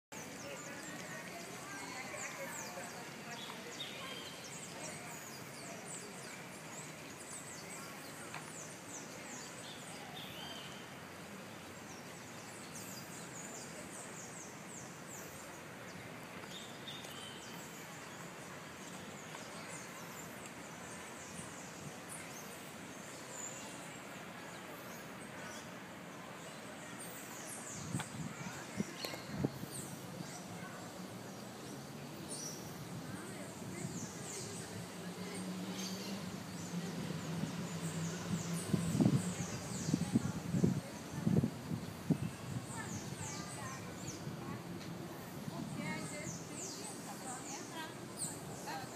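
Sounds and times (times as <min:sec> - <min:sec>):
outdoor background noise: 0:00.0 - 0:48.9
small birds chirping: 0:00.1 - 0:48.9.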